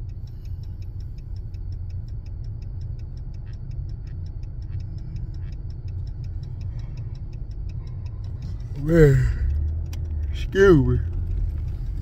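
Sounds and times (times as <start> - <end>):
fast high ticking: 0.0 - 12.0
low engine rumble: 0.0 - 12.0.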